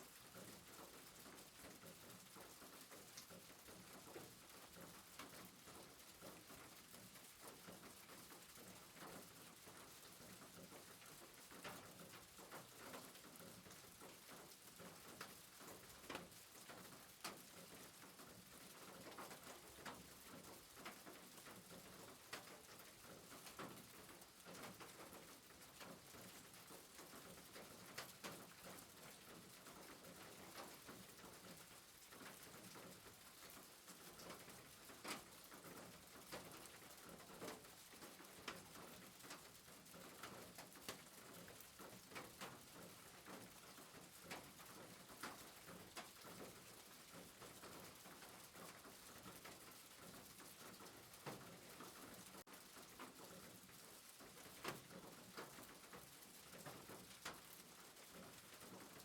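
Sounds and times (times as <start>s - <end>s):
soft rain hiss: 0.0s - 59.0s
raindrops ticking: 0.4s - 59.0s.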